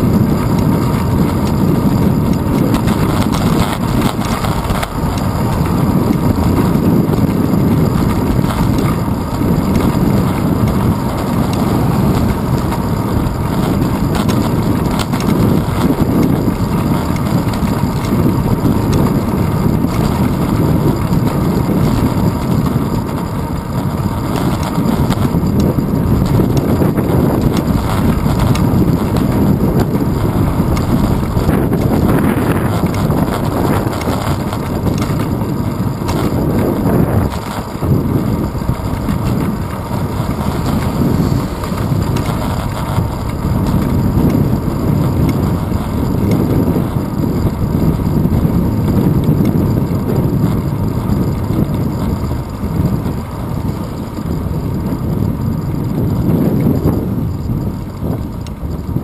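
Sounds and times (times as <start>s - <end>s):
tyres rumbling on asphalt: 0.0s - 59.0s
wind buffeting microphone: 0.0s - 59.0s.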